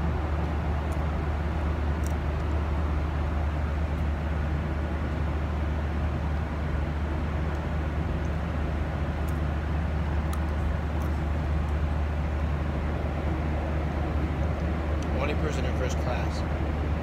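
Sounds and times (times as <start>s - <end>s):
airliner cabin rumble and rushing air: 0.0s - 17.0s.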